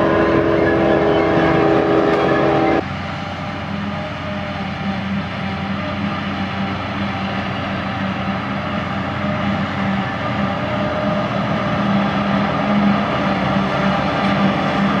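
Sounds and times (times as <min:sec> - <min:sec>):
forage harvester running: 0:00.0 - 0:15.0
tractor driving: 0:00.0 - 0:15.0.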